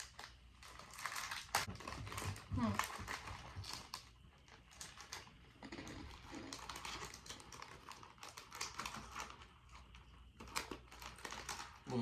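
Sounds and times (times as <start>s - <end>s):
crunchy snack being eaten: 0.0s - 12.0s.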